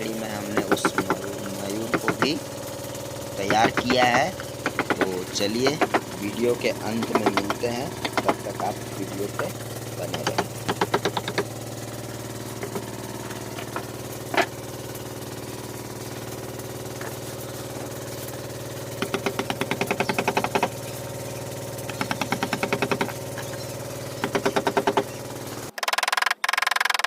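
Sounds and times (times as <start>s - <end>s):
steady machine hum: 0.0s - 25.8s
rapid tapping bursts: 0.0s - 27.0s.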